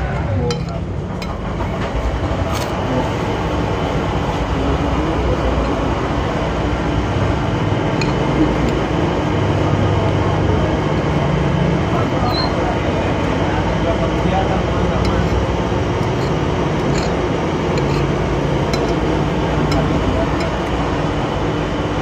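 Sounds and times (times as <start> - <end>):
heavy engine rumbling: 0.0 - 22.0.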